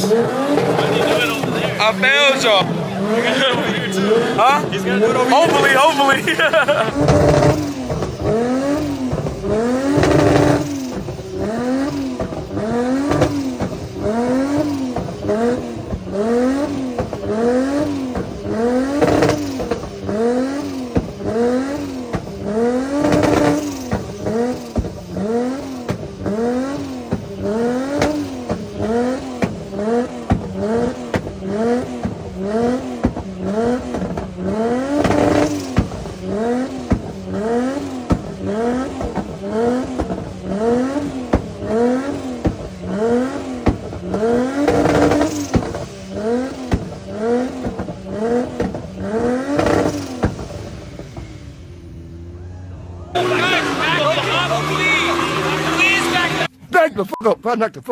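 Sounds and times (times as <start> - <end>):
car engine revving: 0.0 - 56.6.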